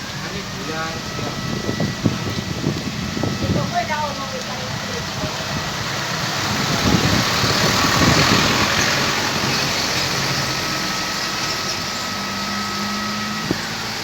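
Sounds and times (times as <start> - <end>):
heavy rain hissing: 0.0 - 14.0
wind buffeting microphone: 0.1 - 14.0.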